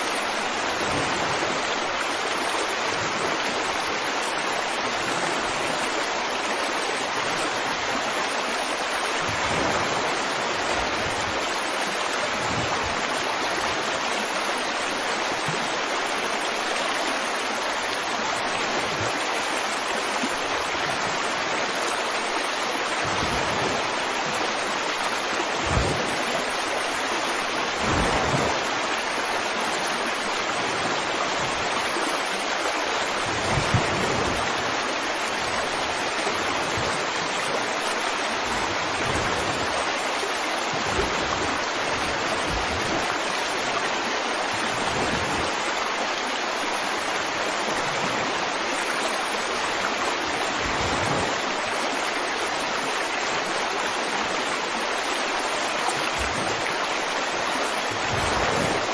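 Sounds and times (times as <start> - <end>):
low water gurgles: 0.0 - 58.9
water rushing: 0.0 - 58.9.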